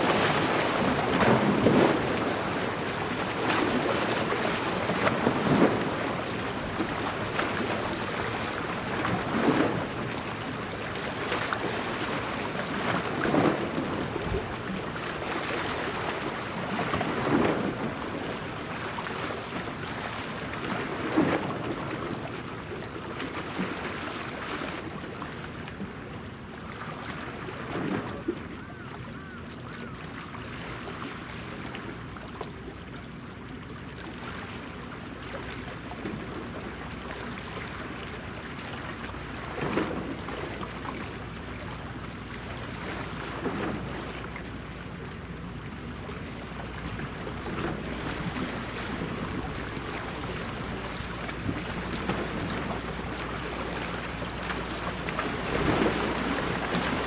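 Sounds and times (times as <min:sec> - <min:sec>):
ship turbine hum: 0:00.0 - 0:27.7, 0:28.3 - 0:57.0
waves washing: 0:00.0 - 0:57.0.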